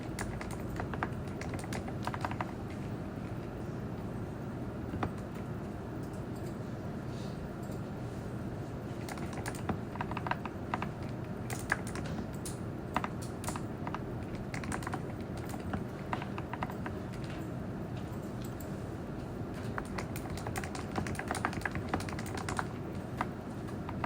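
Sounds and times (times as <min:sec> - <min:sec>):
computer keyboard typing: 0:00.0 - 0:03.4, 0:04.9 - 0:06.6, 0:09.0 - 0:18.8, 0:19.5 - 0:24.0
low room hum: 0:00.0 - 0:24.0.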